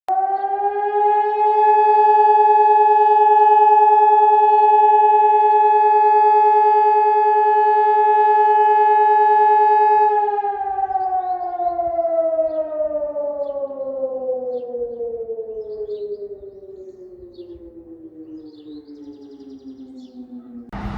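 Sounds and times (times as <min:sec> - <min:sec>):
siren wailing: 0:00.1 - 0:20.9.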